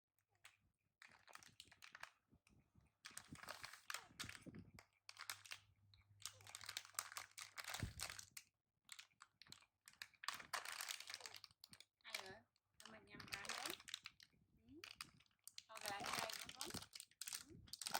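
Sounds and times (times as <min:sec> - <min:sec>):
plastic wrapping crinkling: 0:01.2 - 0:02.1, 0:03.1 - 0:05.6, 0:06.2 - 0:17.9.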